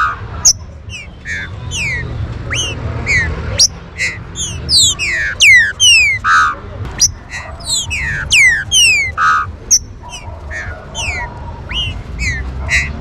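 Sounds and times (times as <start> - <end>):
bird song with falling whistles: 0.0 - 13.0
short buzzy bird notes: 0.4 - 6.3, 6.9 - 13.0.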